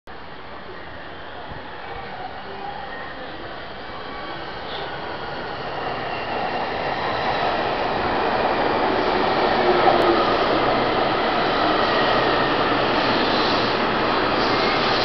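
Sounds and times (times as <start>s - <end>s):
electric train rolling past: 0.2s - 15.0s.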